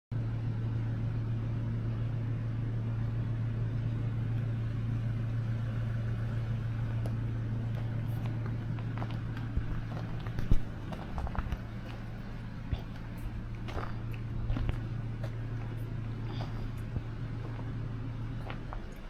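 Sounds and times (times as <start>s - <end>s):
truck diesel engine humming: 0.1s - 19.0s.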